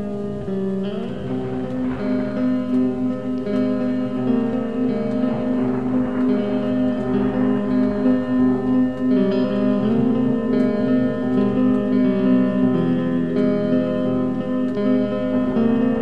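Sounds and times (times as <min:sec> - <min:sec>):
slow black metal guitar chords: 0:00.0 - 0:16.0.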